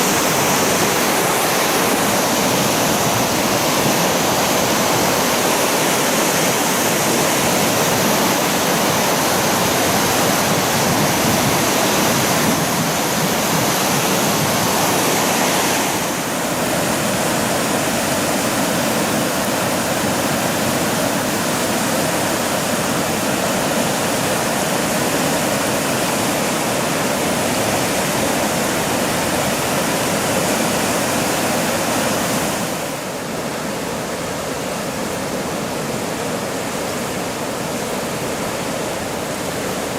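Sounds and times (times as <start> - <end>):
floodwater rushing through gates: 0.0 - 39.9.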